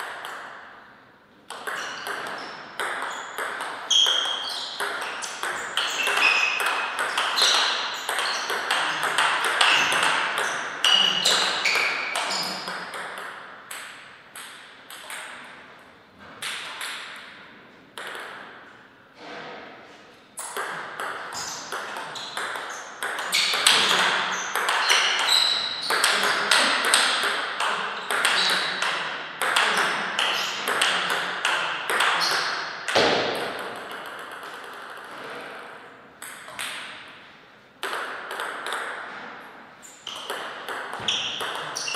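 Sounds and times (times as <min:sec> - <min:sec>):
table tennis ball hits: 0:00.0 - 0:00.9, 0:01.5 - 0:19.8, 0:20.4 - 0:37.2, 0:37.8 - 0:41.9
ball bouncing on table: 0:01.5 - 0:15.6, 0:16.2 - 0:17.4, 0:18.0 - 0:19.6, 0:20.4 - 0:37.1, 0:37.8 - 0:39.4, 0:40.0 - 0:41.9.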